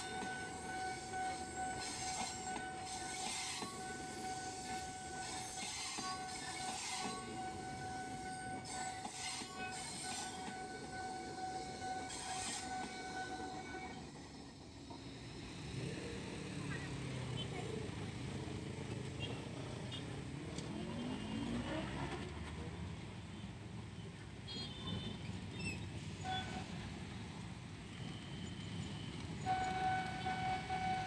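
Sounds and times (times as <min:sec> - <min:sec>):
electric train rolling past: 0:00.0 - 0:23.9, 0:25.4 - 0:31.0.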